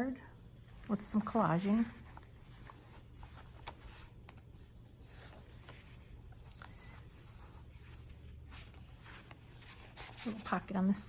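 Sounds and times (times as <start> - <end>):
paper pages rustling: 0.7 - 11.0.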